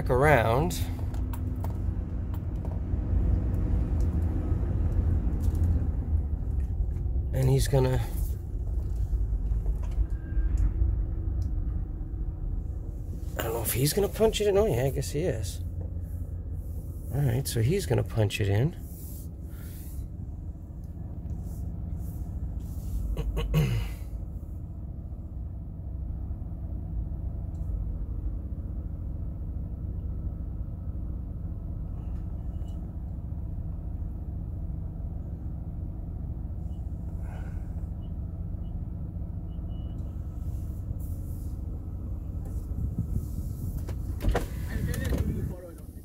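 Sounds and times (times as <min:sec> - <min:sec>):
van engine idling: 0:00.0 - 0:46.0.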